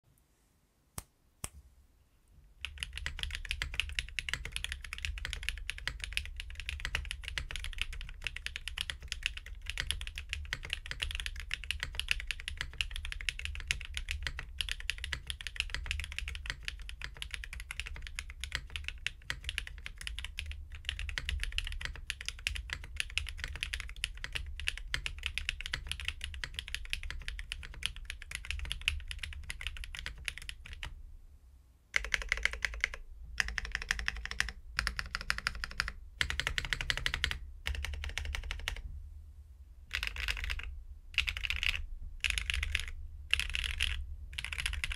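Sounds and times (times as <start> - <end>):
fast typing on mechanical keyboard: 2.6 - 30.9, 32.0 - 38.8, 39.9 - 44.9.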